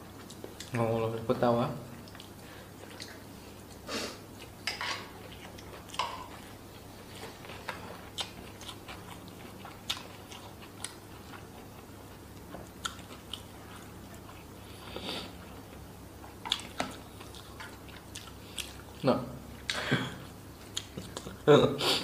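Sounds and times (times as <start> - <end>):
chewing and crunching: 2.0 - 3.8, 4.4 - 21.5.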